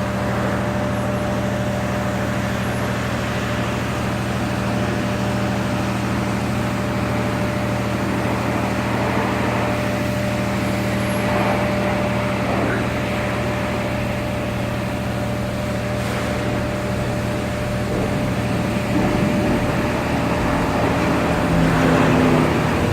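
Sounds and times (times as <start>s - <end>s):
machinery humming: 0.0s - 22.9s.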